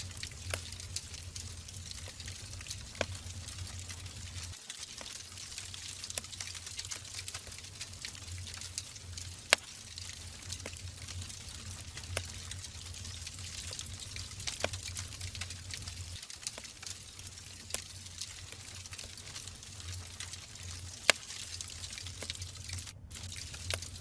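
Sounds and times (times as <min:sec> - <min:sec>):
wood fire hissing and crackling: 0:00.0 - 0:24.0.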